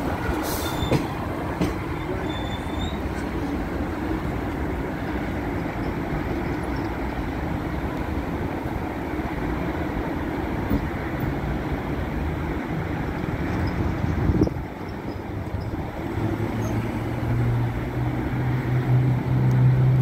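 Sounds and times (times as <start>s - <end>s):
metro train rumble and hum: 0.0s - 20.0s.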